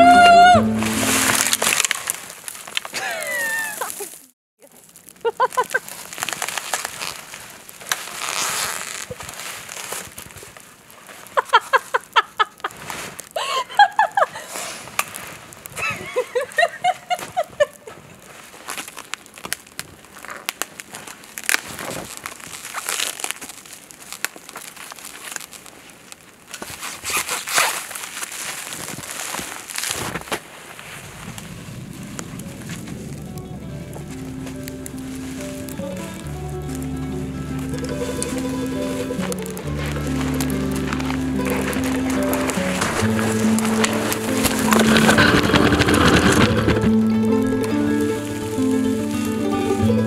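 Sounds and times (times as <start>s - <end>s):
stretch wrap crinkling: 0.1s - 50.0s.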